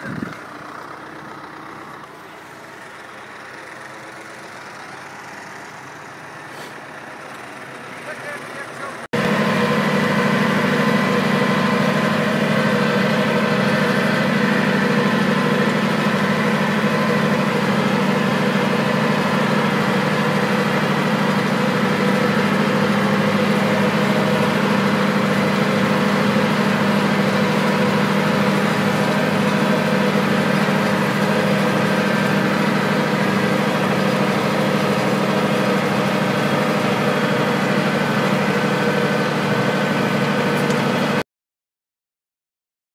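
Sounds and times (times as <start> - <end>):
tractor diesel engine running: 0.0 - 41.2.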